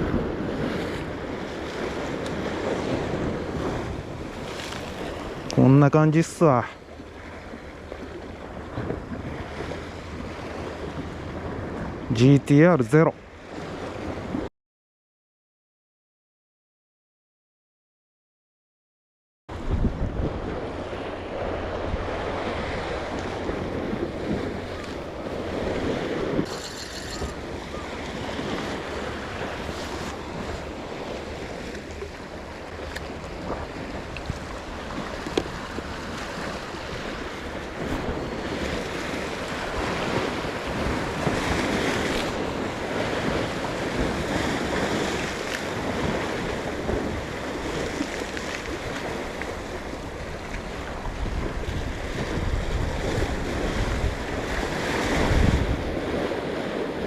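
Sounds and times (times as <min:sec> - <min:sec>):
wind buffeting microphone: 0:00.0 - 0:05.6, 0:06.7 - 0:12.2, 0:19.5 - 0:57.0
surf on rocky shore: 0:00.0 - 0:14.5, 0:19.5 - 0:57.0.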